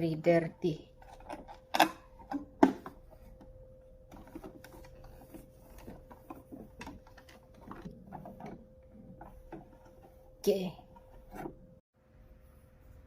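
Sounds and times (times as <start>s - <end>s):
rubbing and scraping on plastic: 0.9s - 11.8s.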